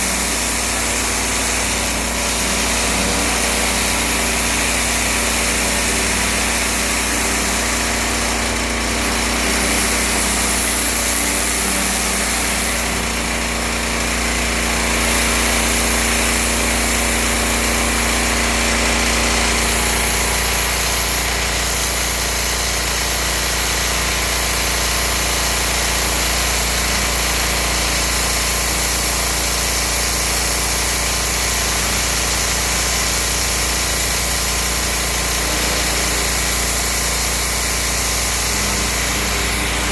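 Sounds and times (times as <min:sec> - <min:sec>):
pressure washer engine droning: 0:00.0 - 0:39.9
pressure washer hiss: 0:00.0 - 0:39.9.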